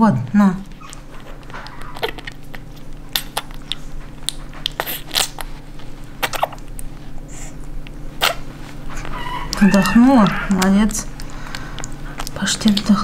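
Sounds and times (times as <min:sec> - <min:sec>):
puppy smacking and slurping food: 0:00.7 - 0:13.0.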